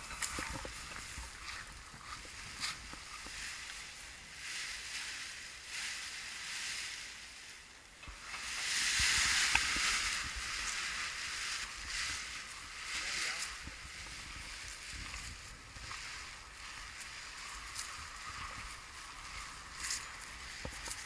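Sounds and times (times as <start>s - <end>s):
paraglider canopy rustling: 0.0s - 21.0s.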